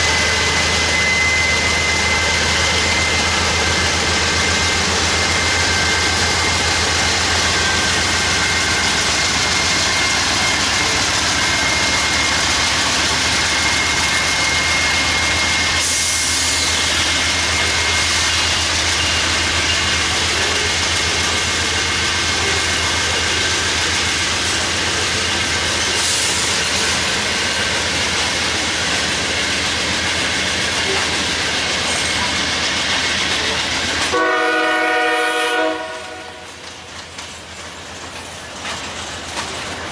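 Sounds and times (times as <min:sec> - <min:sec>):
diesel locomotive engine throbbing: 0:00.0 - 0:39.9.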